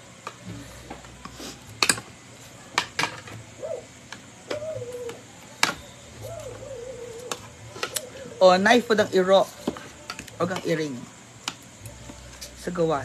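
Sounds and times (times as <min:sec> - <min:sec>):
soft wavering whine: 0:00.0 - 0:13.0.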